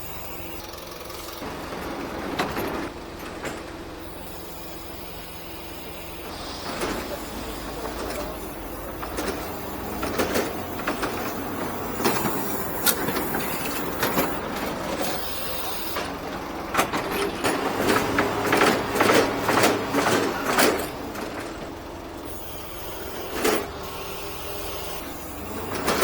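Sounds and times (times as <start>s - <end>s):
knocks clanks and rattles: 0.9s - 4.6s, 6.2s - 26.0s.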